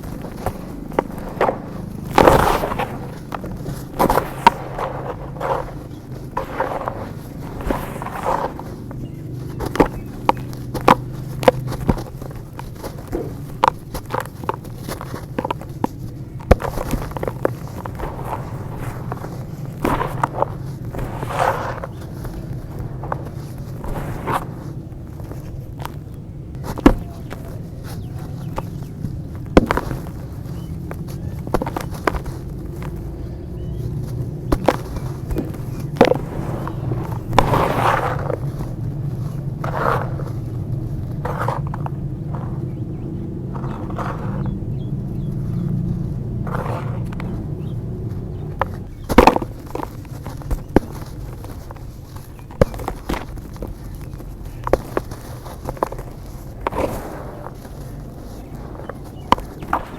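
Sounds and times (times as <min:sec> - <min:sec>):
dirt clumps crumbling: 0:00.0 - 0:59.9.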